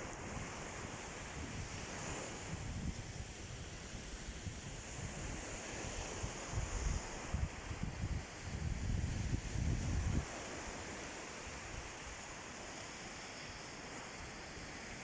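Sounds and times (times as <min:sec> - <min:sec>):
wind buffeting microphone: 0:00.0 - 0:12.1
surf washing onto sand: 0:00.0 - 0:15.0.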